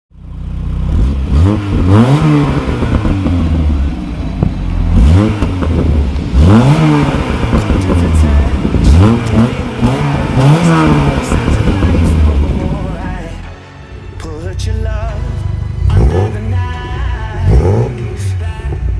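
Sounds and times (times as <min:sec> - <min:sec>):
car engine idling and revving: 0:00.1 - 0:18.9.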